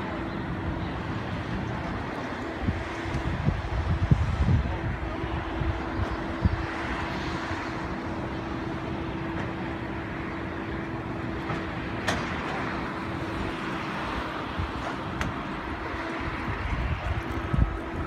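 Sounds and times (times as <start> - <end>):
excavator diesel engine whining: 0.0 - 18.0.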